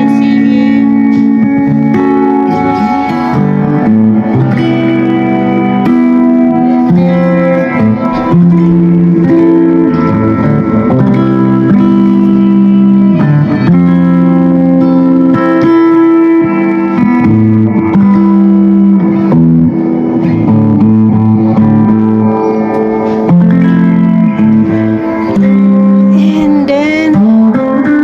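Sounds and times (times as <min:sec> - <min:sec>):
guitar chords through amplifier: 0:00.0 - 0:28.0.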